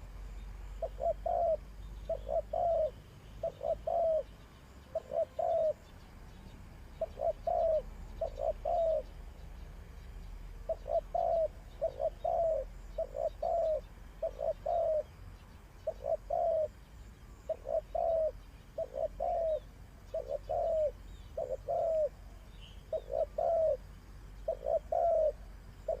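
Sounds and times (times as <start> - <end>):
dove cooing: 0.7 - 6.0, 7.0 - 9.3, 10.6 - 26.0.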